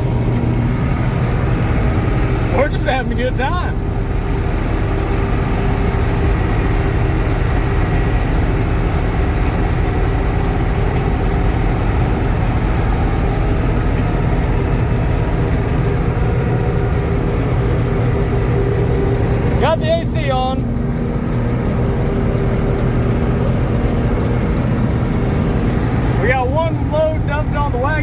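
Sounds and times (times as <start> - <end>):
combine harvester engine and machinery: 0.0 - 28.0.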